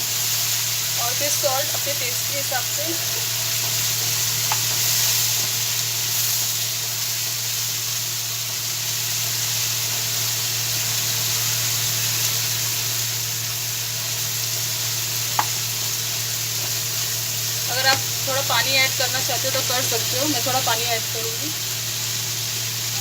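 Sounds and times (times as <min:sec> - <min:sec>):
sauce sizzling in hot oil: 0:00.0 - 0:23.0.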